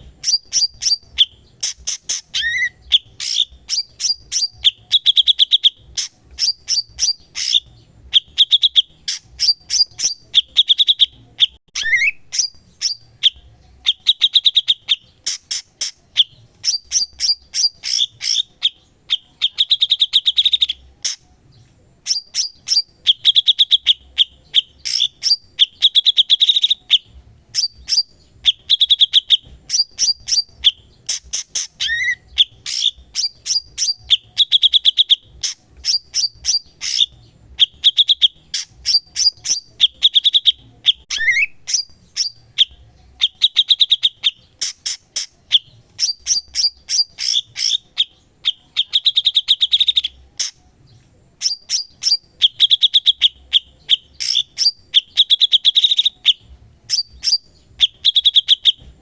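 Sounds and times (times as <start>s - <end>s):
songbird trills and chirps: 0.0s - 59.0s.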